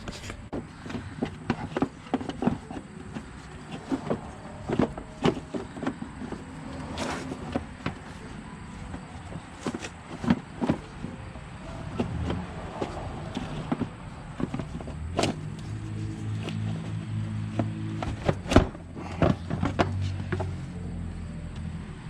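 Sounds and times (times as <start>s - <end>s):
scraping rattle: 0.0s - 20.5s.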